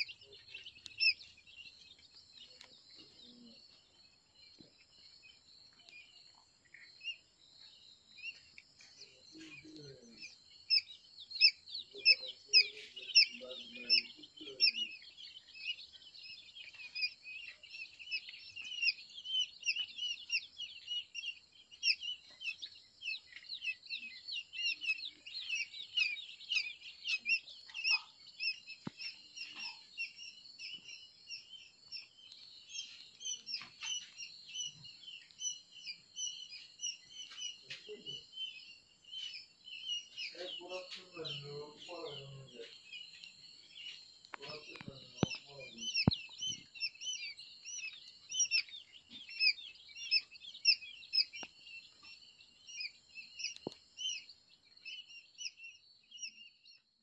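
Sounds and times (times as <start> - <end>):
quail chicks peeping: 0.0 - 57.0.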